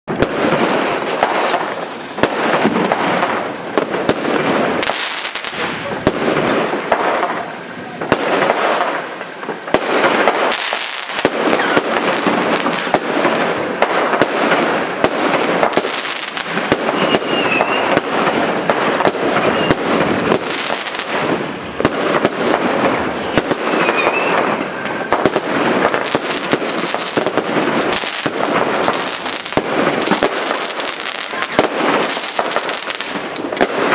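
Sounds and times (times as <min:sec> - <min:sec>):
fireworks banging and crackling: 0:00.0 - 0:33.9.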